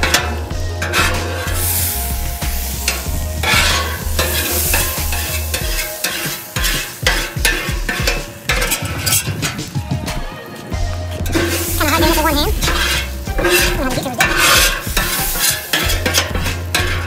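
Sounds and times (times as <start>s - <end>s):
metal scraper scraping griddle: 0.0s - 9.8s, 12.6s - 17.0s
water sizzling on hot griddle: 0.0s - 17.0s.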